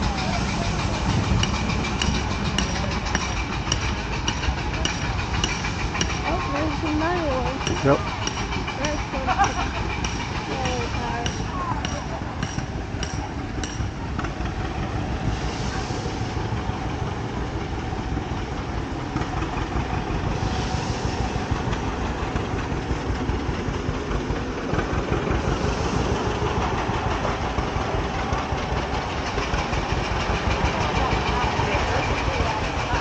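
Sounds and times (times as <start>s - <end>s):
steam engine running: 0.0s - 33.0s.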